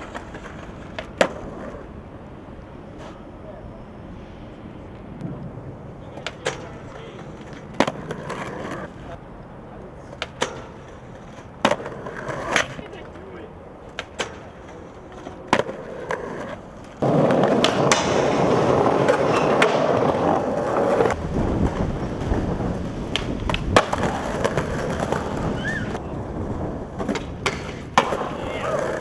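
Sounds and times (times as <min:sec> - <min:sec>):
skateboard clacks: 0:00.0 - 0:01.9, 0:05.2 - 0:09.2, 0:09.9 - 0:29.0
skateboard wheels rolling on concrete: 0:00.0 - 0:29.0.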